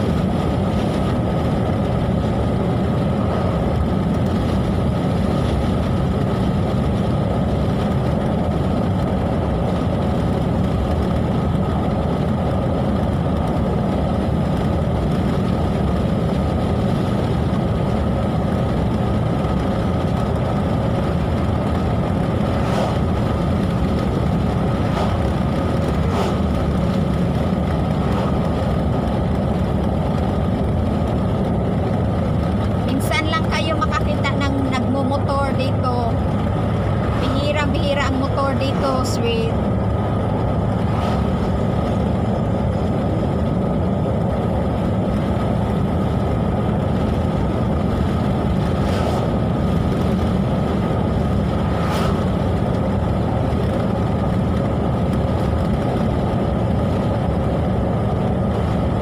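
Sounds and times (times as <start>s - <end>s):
car driving at highway speed: 0.0s - 59.0s.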